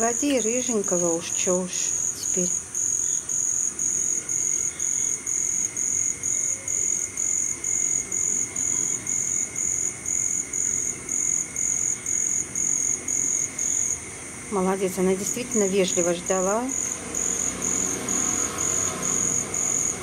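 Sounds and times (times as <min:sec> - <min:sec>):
crickets chirping in pulses: 0:00.0 - 0:20.0
steady high insect trill: 0:00.0 - 0:20.0.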